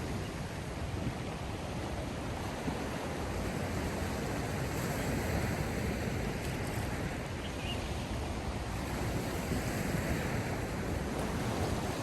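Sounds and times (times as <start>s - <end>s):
waves rushing with deep rumble: 0.0s - 12.0s.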